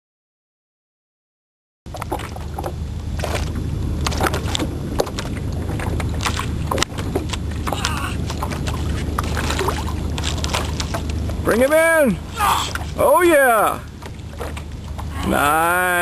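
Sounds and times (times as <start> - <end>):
steady low rumble: 1.9 - 16.0
water splashes: 1.9 - 16.0.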